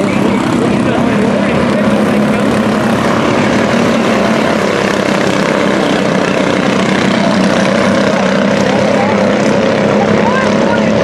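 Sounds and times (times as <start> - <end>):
race truck engines droning: 0.0 - 11.0.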